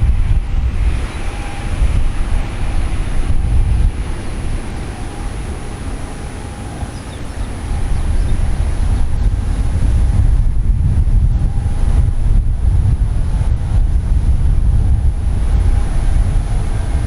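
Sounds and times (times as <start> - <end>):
distant jet engine rumble: 0.0 - 17.0
wind buffeting microphone: 0.0 - 17.0.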